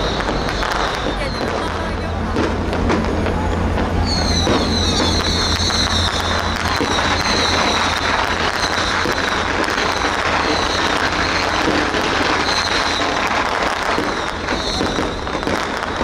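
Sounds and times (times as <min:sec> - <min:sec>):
boat engines humming: 0:00.0 - 0:16.0
firecrackers crackling: 0:00.0 - 0:16.0.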